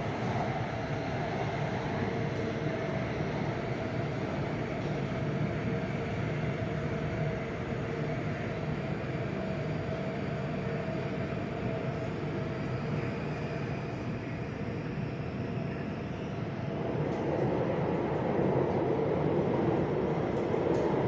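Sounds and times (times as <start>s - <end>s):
metro train rumble: 0.0s - 21.0s.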